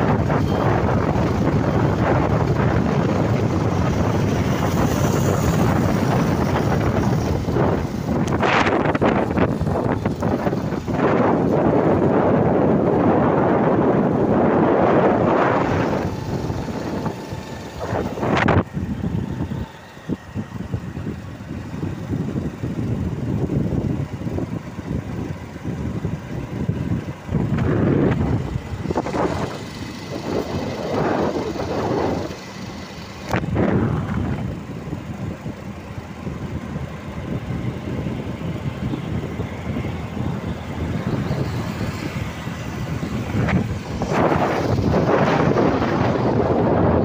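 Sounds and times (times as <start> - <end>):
motorbike engine and tyre noise: 0.0 - 47.0
wind buffeting microphone: 0.0 - 47.0.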